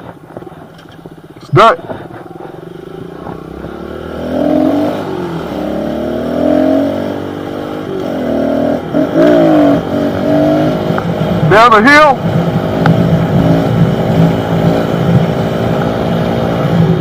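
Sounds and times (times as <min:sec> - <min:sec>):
pit bike engine accelerating: 0:00.9 - 0:17.0.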